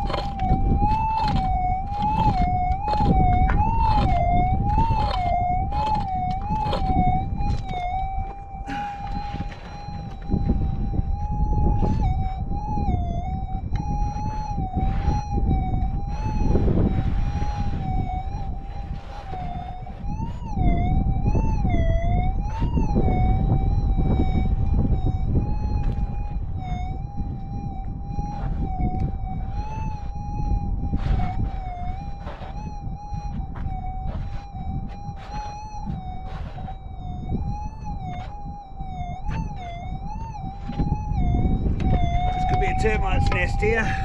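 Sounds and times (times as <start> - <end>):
metal detector tone: 0.0 - 44.0.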